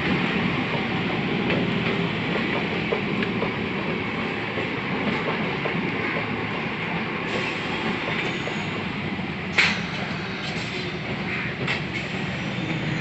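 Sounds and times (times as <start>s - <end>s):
train wheels running on rails: 0.0s - 13.0s.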